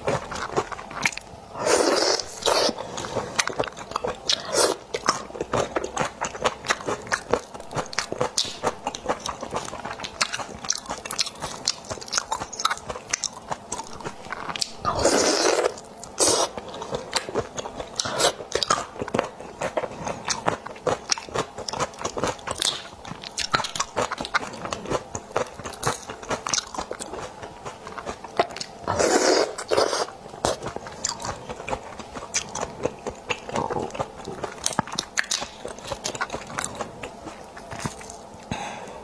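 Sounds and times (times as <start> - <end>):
shrimp shells cracking and chewing: 0.0 - 1.4, 2.1 - 38.6.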